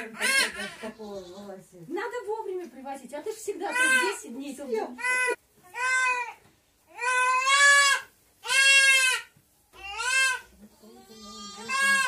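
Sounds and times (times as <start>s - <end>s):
goat kid bleating: 0.0s - 1.6s, 3.6s - 12.0s.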